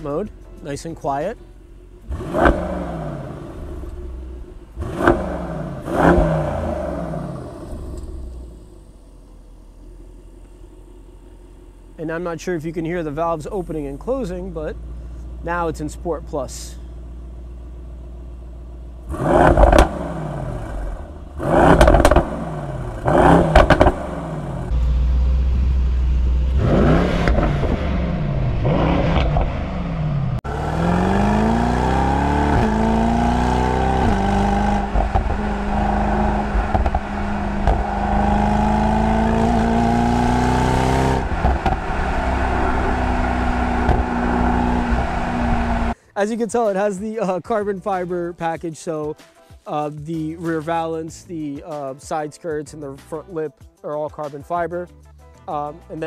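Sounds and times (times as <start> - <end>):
car driving off: 0.0 - 46.0
car engine revving: 1.0 - 46.0.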